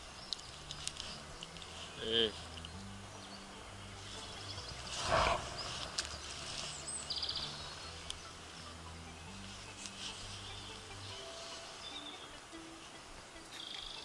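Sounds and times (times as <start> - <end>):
bird trill: 0.0 - 14.0
small birds chirping: 0.0 - 14.0.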